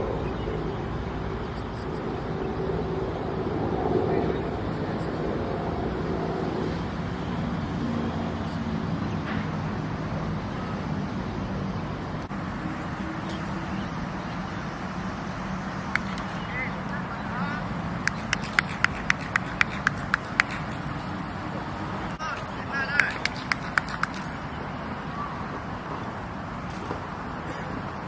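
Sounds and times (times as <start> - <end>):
distant road traffic rumble: 0.0 - 28.0.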